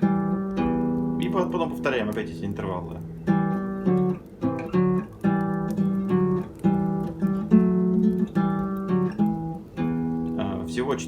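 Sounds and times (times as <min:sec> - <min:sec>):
nylon-string guitar plucking: 0:00.0 - 0:11.0.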